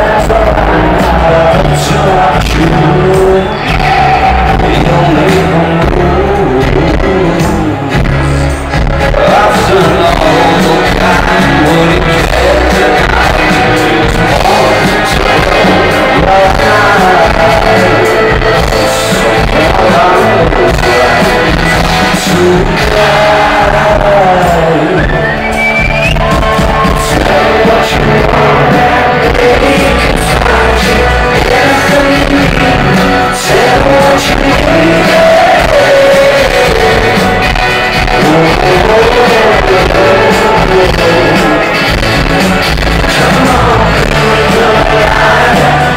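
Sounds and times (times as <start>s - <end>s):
drums: 0.0s - 45.9s
electric guitars: 0.0s - 45.9s
man singing: 0.0s - 45.9s.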